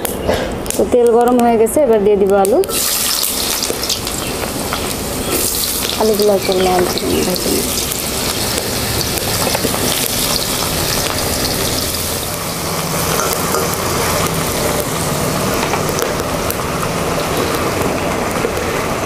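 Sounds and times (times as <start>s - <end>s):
potato sticks frying in oil: 2.4s - 19.0s.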